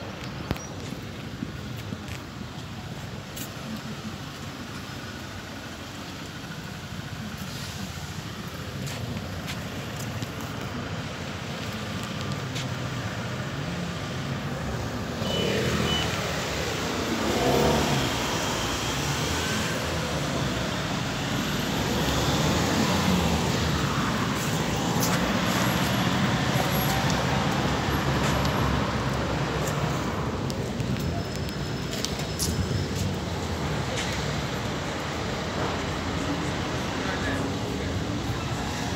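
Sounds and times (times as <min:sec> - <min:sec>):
rumble of engines and tyres: 0:00.0 - 0:38.9
vehicles passing: 0:00.0 - 0:38.9.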